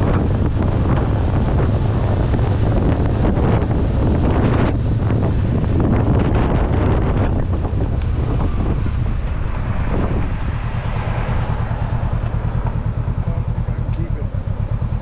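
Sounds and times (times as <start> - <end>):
motorcycle engine drone: 0.0 - 15.0
wind buffeting the microphone: 0.0 - 15.0.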